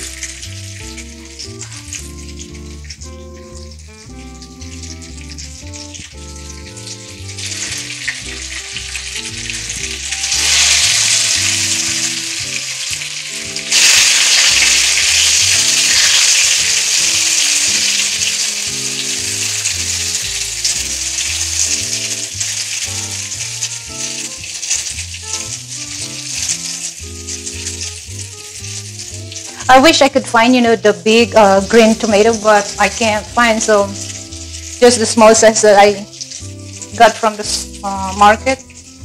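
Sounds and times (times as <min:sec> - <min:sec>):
soft background music: 0:00.0 - 0:39.0
tomato slices sizzling in oil: 0:00.0 - 0:39.0.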